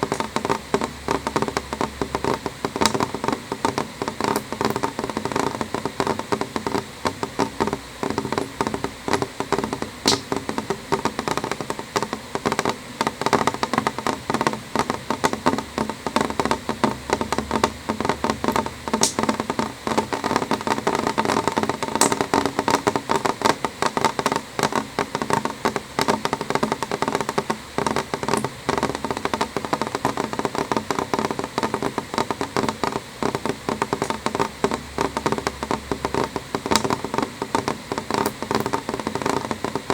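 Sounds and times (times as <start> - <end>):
rain drumming on a window: 0.0 - 39.9.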